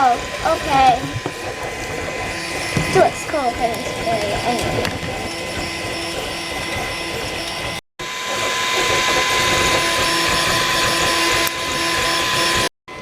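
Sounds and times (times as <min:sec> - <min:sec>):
motor and fan whine: 0:00.0 - 0:13.0
three d printer whirring: 0:00.0 - 0:13.0.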